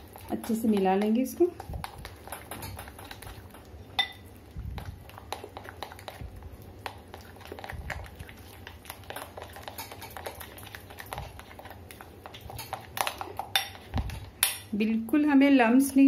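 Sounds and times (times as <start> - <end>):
spoon beating batter in glass bowl: 0.0 - 14.7.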